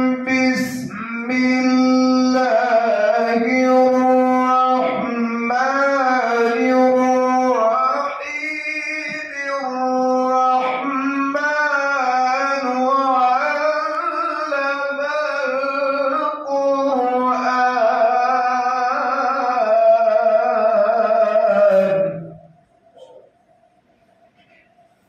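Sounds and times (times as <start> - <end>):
man reciting melodically: 0.0 - 22.5.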